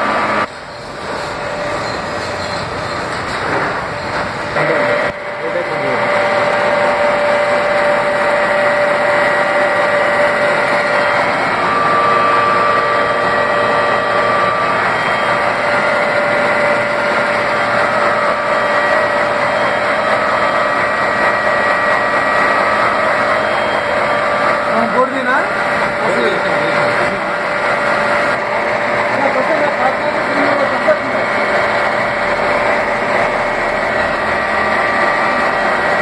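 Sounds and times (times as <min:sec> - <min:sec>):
held whining tones: 0:00.0 - 0:36.0
milling machine running: 0:00.0 - 0:36.0.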